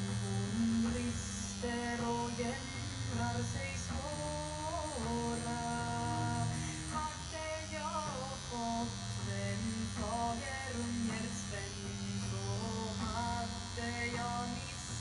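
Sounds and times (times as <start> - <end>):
music with singing: 0.0 - 15.0
tattoo machine buzzing: 0.0 - 15.0.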